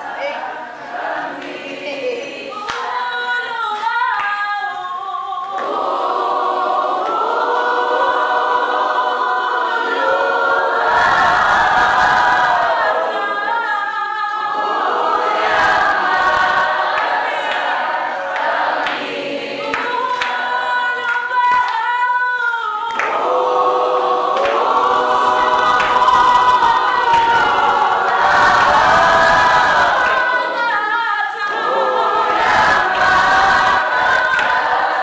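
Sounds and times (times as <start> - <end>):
group singing a cappella: 0.0 - 35.0.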